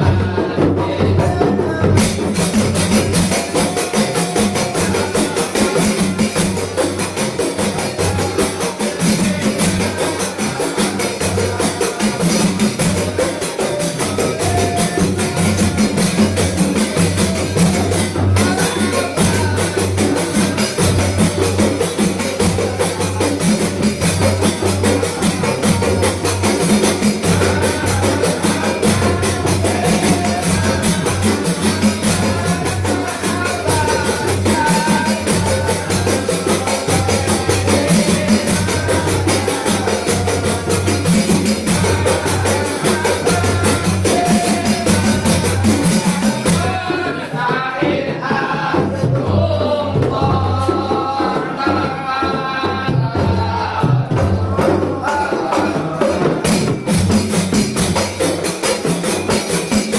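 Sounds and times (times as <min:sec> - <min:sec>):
hand drums fast rhythm: 0:00.0 - 0:59.9.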